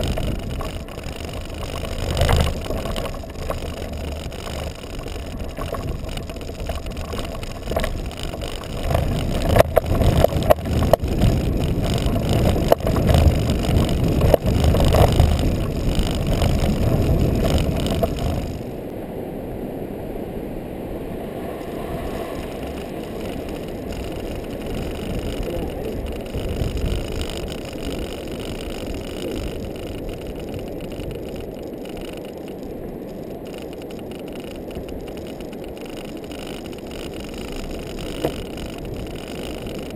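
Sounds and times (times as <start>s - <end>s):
wheels rumbling and knocking: 0.0s - 18.9s, 21.4s - 39.9s
wind rushing over microphone: 0.0s - 39.9s.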